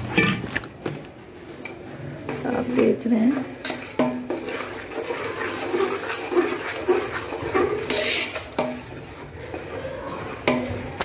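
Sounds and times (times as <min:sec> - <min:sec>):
metal ladle scraping a pot: 0:00.0 - 0:00.6, 0:02.3 - 0:11.0.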